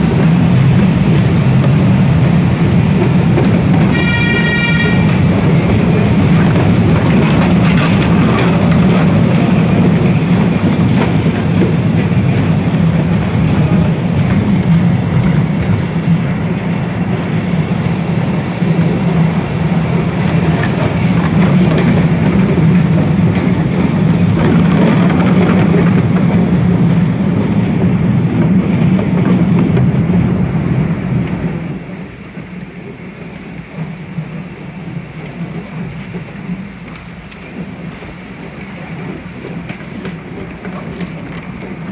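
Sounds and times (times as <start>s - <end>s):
train carriages rolling on rails: 0.0s - 41.9s.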